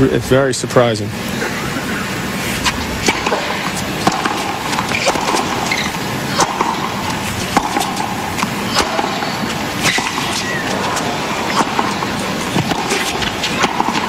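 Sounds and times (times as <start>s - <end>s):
steady background hiss: 0.0s - 14.0s
racquet striking tennis ball: 2.2s - 14.0s.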